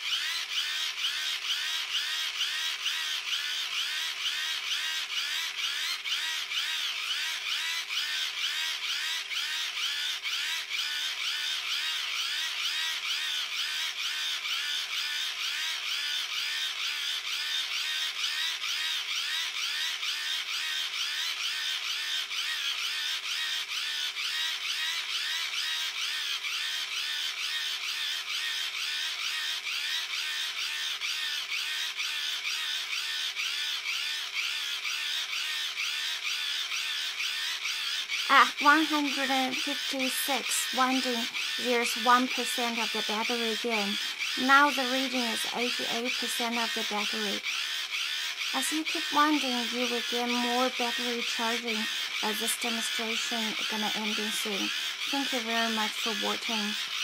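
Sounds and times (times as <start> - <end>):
hand-cranked dynamo whirring: 0.0 - 57.0.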